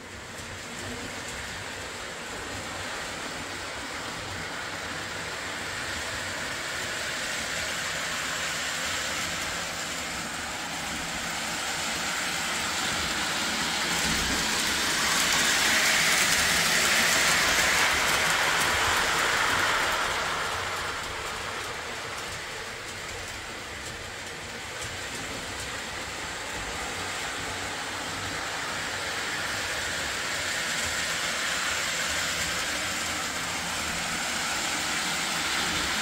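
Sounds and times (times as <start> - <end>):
toy train wheels and motor rumbling: 0.0 - 36.0.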